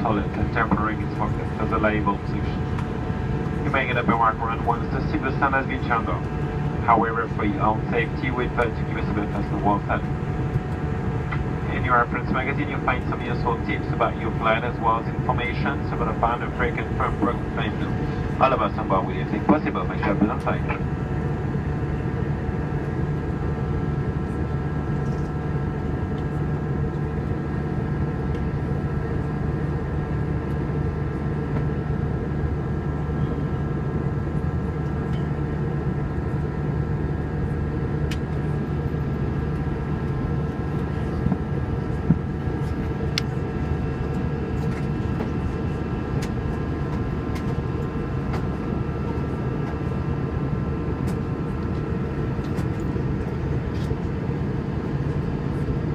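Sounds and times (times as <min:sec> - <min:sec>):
airliner cabin drone: 0:00.0 - 0:55.9
steady whining tones: 0:00.0 - 0:55.9.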